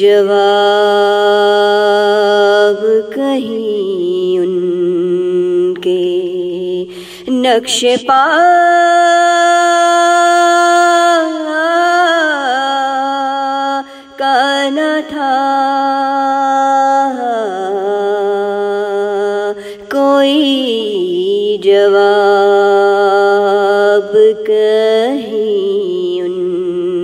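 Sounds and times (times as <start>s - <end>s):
woman singing: 0.0s - 27.0s.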